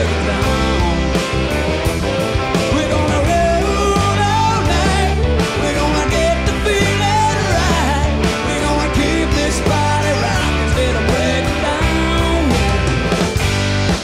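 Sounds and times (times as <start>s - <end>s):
man singing: 0.0s - 1.4s, 2.4s - 12.9s
bass guitar: 0.0s - 14.0s
drum kit steady beat: 0.0s - 14.0s
electric guitar: 0.0s - 14.0s.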